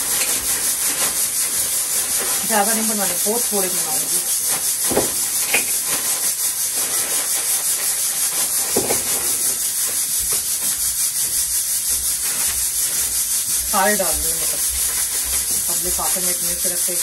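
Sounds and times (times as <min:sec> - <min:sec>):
plastic bag crinkling: 0:00.0 - 0:11.2, 0:12.0 - 0:17.0
loud steady hiss: 0:00.0 - 0:17.0.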